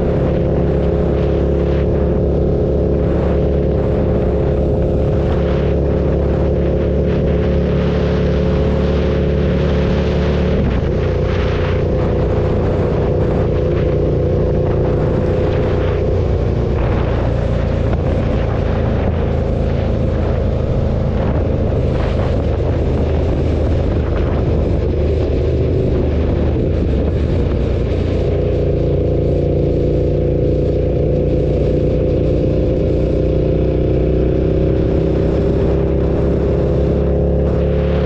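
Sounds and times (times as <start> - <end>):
motorcycle engine cruising: 0.0 - 38.0
wind rushing over microphone: 0.0 - 38.0.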